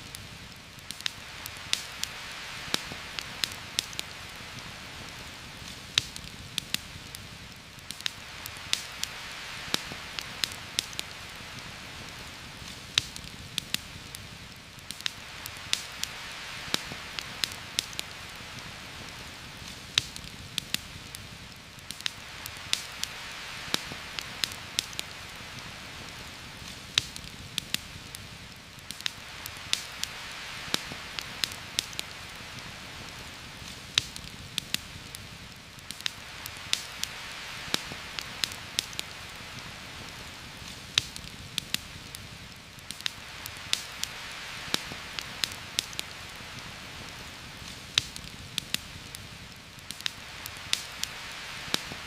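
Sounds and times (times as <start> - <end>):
heavy rain hissing: 0.0 - 52.0
sharp crackling pops: 0.0 - 52.0.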